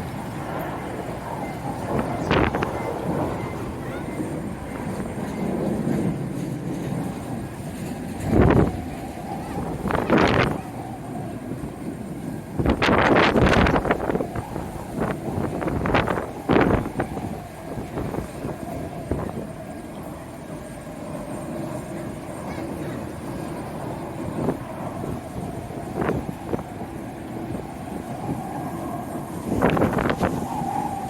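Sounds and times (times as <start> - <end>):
jet engines humming: 0.0 - 31.0
wind buffeting microphone: 0.0 - 31.0.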